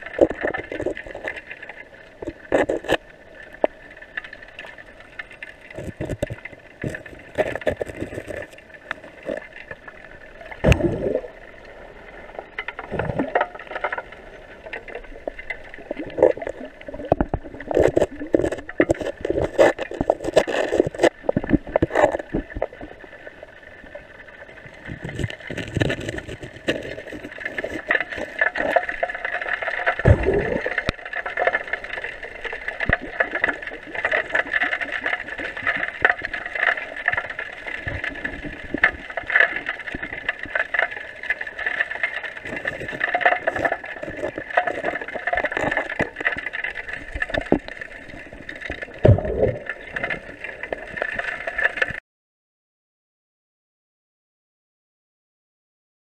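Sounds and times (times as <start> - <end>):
small clicks and knocks: 0.0 - 9.9, 12.6 - 22.9, 24.8 - 30.0, 30.7 - 52.0
underwater river rushing: 0.0 - 52.0.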